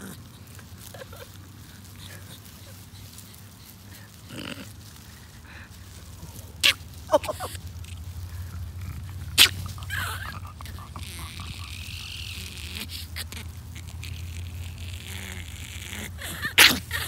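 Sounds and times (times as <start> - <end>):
grass rustling: 0.0 - 17.0.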